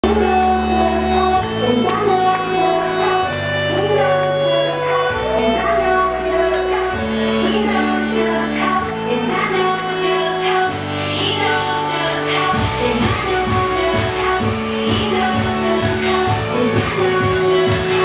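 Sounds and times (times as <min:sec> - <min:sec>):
dance music over loudspeakers: 0:00.0 - 0:18.0
held bass notes: 0:00.0 - 0:18.0
person singing: 0:00.0 - 0:18.0.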